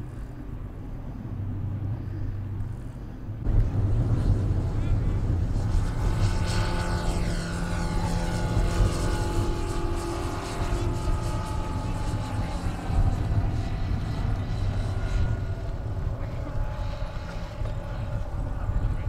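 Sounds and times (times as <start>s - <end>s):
model plane engine and propeller: 0.0s - 19.0s.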